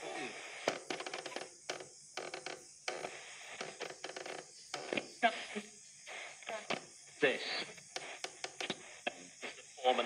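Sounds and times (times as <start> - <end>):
radio static and crackle: 0.0 - 1.4, 2.9 - 10.0.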